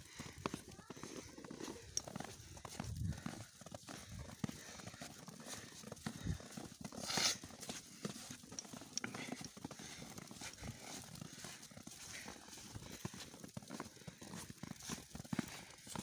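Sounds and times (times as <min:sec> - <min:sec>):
footsteps crunching in snow: 0:00.0 - 0:16.0.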